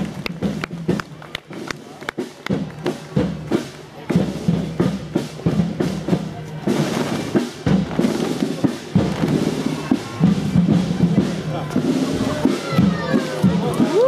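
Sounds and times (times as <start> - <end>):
marching drums beating: 0.0 - 14.0.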